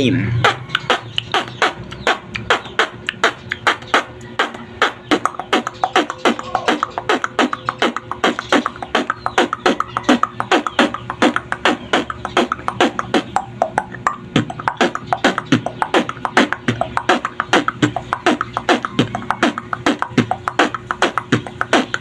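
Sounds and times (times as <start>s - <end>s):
beatboxing drum hits: 0.0s - 22.0s.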